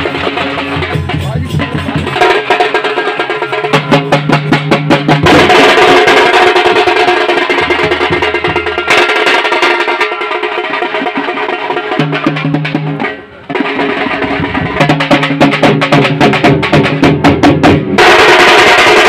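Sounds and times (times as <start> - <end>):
drum troupe playing fast rhythm: 0.0 - 19.0.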